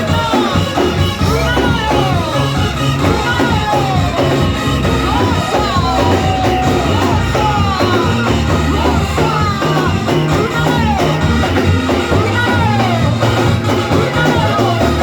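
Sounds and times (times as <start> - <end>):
bass line: 0.0 - 15.0
drums: 0.0 - 15.0
sliding melody line: 0.0 - 15.0.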